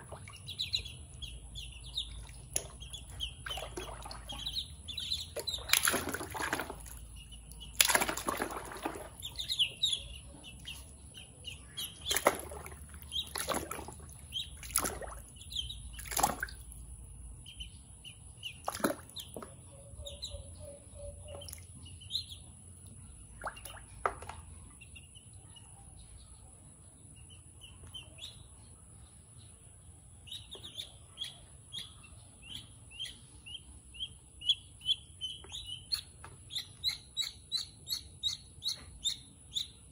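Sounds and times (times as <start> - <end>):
ducklings peeping: 0.0 - 16.6, 17.4 - 25.8, 30.2 - 39.9
ducklings splashing in water: 0.0 - 20.3, 21.2 - 25.3, 30.2 - 39.9.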